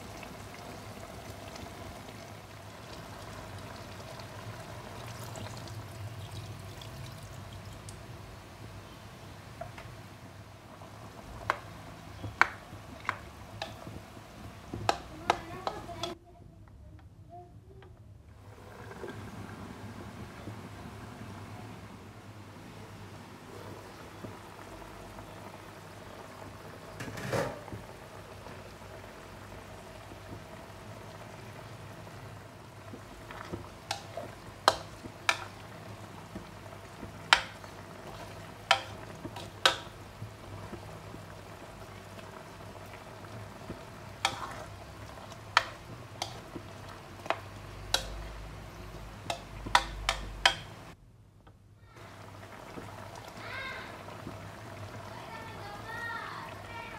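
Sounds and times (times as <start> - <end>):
stew bubbling in a wok: 0.0 - 16.2, 18.3 - 51.0, 51.9 - 56.9.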